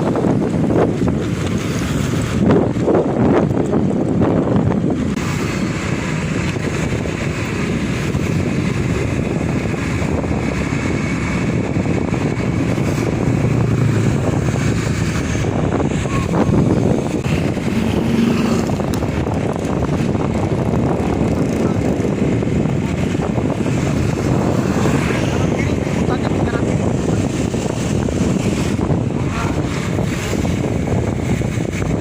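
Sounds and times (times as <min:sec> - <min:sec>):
vehicle engine and road noise: 0:00.0 - 0:32.0
wind rumbling on microphone: 0:00.0 - 0:32.0.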